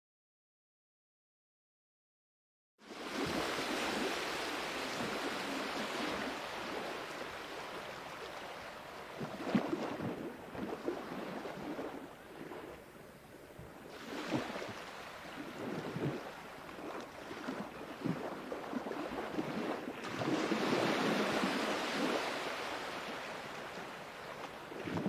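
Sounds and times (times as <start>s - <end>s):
sea waves washing in: 2.8s - 25.0s
water splashes and gurgles: 2.8s - 25.0s.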